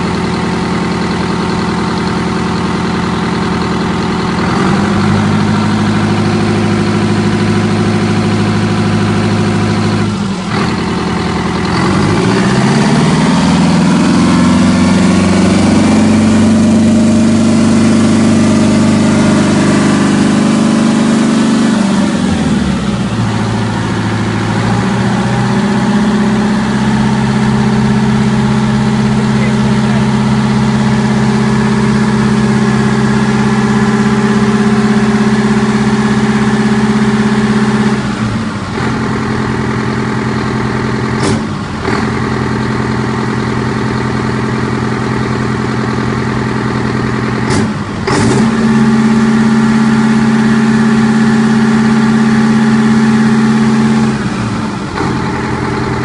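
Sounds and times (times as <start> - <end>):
two-stroke diesel engine running: 0.0 - 56.0.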